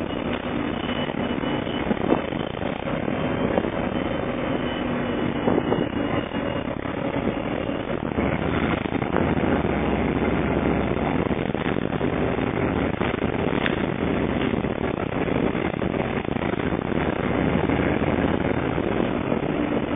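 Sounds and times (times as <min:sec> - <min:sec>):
bus engine drone: 0:00.0 - 0:19.9
road noise inside bus: 0:00.0 - 0:19.9.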